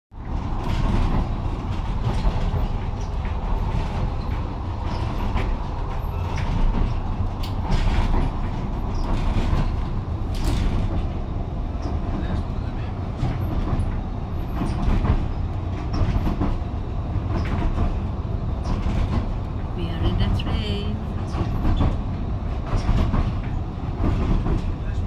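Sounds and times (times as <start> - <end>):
train carriage rumbling: 0.1 - 25.0.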